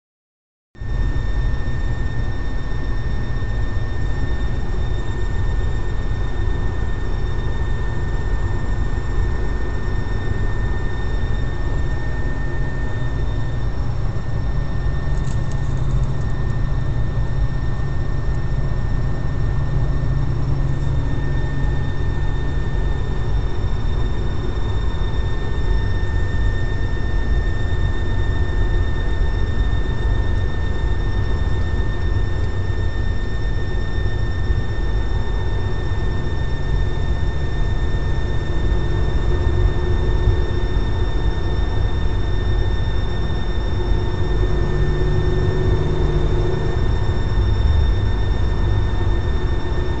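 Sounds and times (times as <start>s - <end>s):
constant high-pitched squeal: 0.8s - 50.0s.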